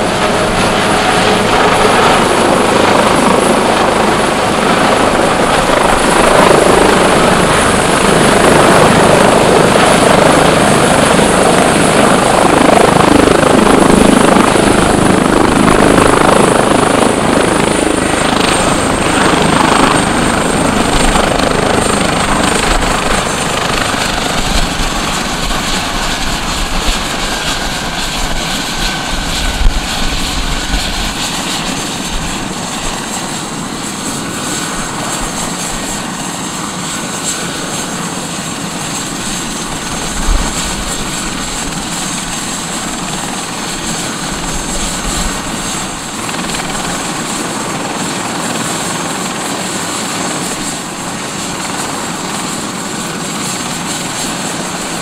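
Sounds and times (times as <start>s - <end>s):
helicopter turbines whining: 0.0s - 55.0s.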